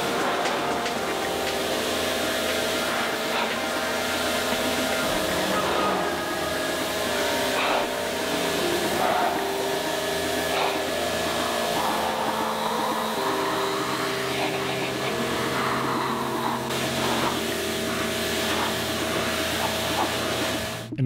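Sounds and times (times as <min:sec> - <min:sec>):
pressure washer spraying water: 0:00.0 - 0:20.9
steady hum: 0:00.0 - 0:21.0.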